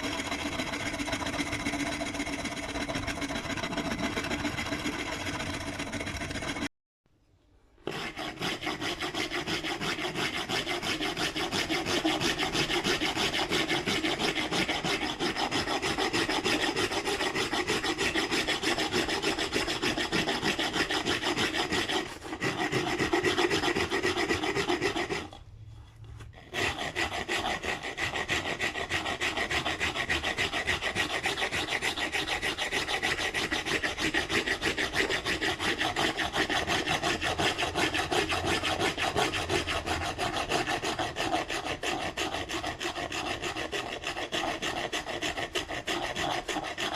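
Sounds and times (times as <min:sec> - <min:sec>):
tool rasping wood: 0:00.0 - 0:06.7, 0:07.8 - 0:25.5, 0:26.2 - 0:46.9.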